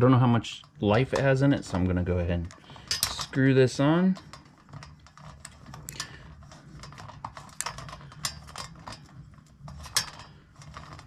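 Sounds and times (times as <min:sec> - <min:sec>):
glass ball twisted onto metal: 0:00.6 - 0:11.0.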